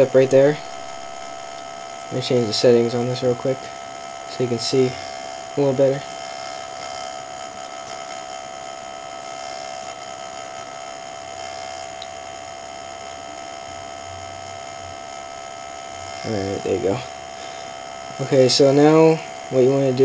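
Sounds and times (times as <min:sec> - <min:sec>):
laptop hum: 0:00.0 - 0:20.0.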